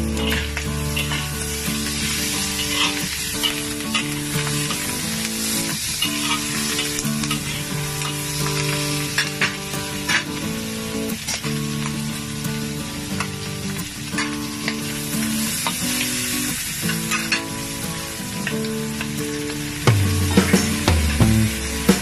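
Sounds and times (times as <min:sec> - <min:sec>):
vegetables sizzling in wok: 0:00.0 - 0:22.0.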